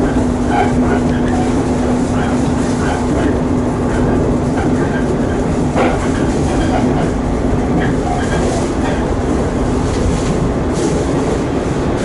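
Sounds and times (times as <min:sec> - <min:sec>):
constant low hum: 0:00.0 - 0:12.0
train wheels rumbling on rail: 0:00.0 - 0:12.0.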